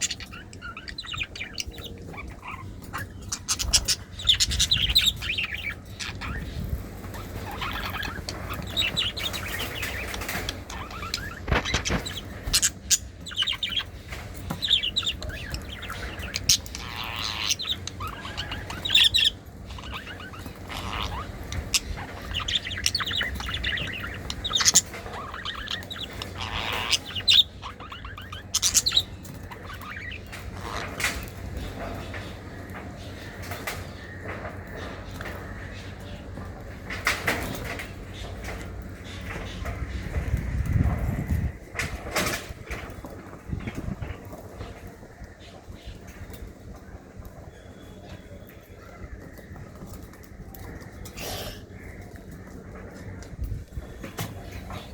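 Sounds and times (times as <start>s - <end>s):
lovebirds chirping: 0.0s - 54.9s.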